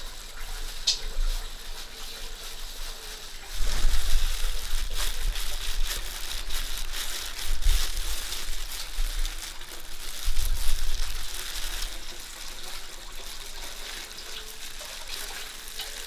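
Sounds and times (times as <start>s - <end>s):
water running and splashing: 0.0s - 16.0s.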